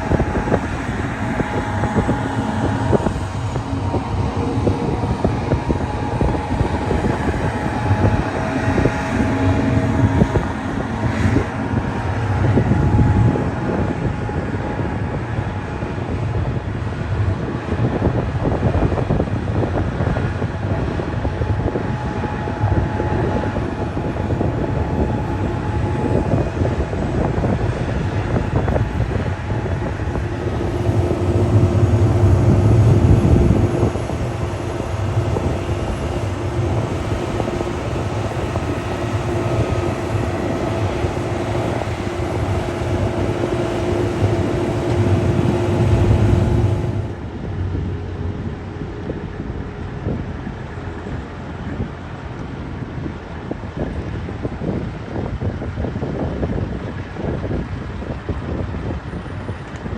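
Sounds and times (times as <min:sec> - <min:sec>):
large vehicle engine running: 0:00.0 - 0:55.5.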